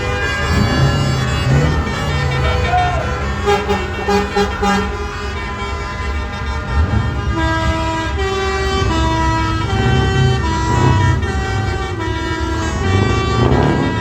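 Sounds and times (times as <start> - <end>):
musical truck horn: 0.0 - 14.0
truck engine running: 0.0 - 14.0.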